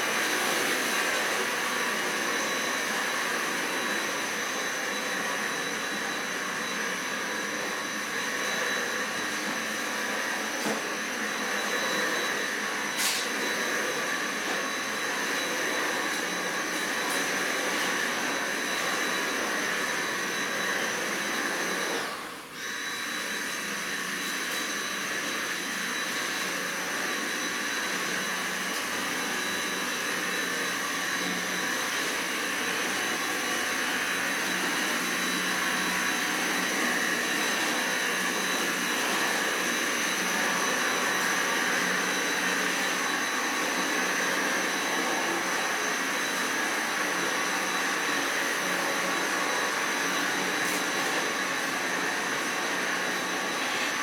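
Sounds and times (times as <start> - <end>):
vacuum cleaner whining: 0.0 - 54.0.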